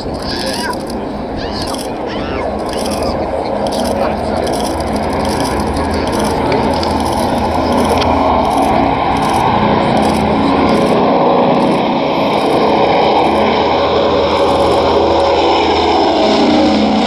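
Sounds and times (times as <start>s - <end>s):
propeller airliner flying over: 0.0s - 17.0s.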